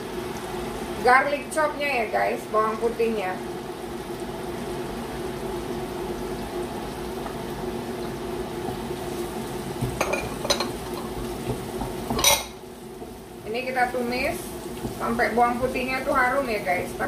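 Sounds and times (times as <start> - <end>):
onion and garlic sizzling: 0.0 - 17.0
water heating toward boil: 0.0 - 17.0.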